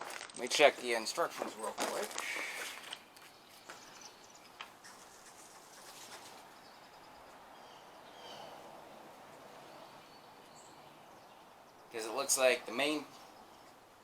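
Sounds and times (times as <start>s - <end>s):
distant birds chirping: 0.6s - 14.0s.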